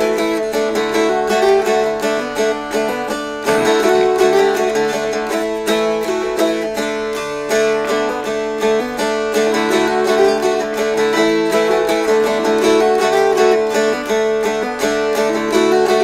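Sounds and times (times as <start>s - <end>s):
mountain dulcimers strummed: 0.0s - 16.0s.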